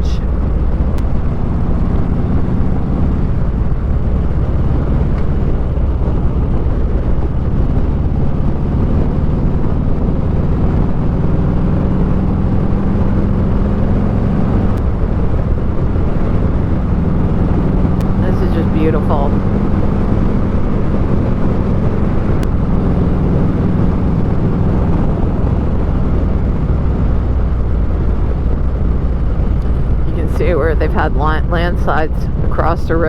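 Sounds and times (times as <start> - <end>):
motorcycle engine cruising: 0.0 - 33.0
wind noise: 0.0 - 33.0.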